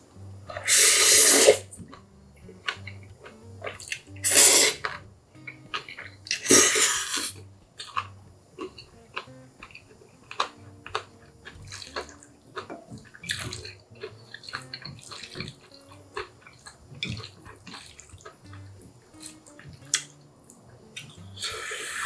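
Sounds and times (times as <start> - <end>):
mouth smacks and clicks: 0.5 - 22.0
wet chewing and slurping noodles: 0.5 - 22.0.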